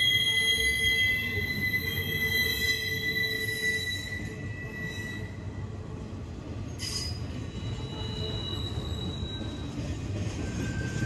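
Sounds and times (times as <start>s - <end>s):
high-pitched wheel squeals: 0.0s - 5.6s, 6.7s - 11.0s
freight train wheels rumbling: 0.0s - 11.0s.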